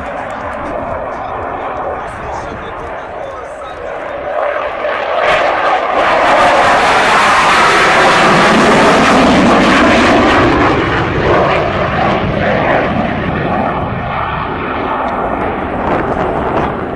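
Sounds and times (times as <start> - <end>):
fighter jet flying past: 0.0 - 16.9.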